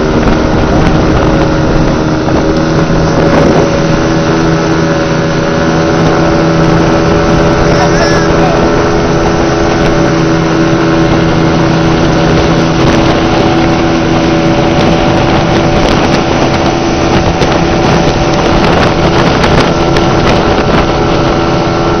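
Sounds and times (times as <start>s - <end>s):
motorboat engine humming: 0.0s - 22.0s
water rushing: 0.0s - 22.0s
wind noise: 0.0s - 22.0s.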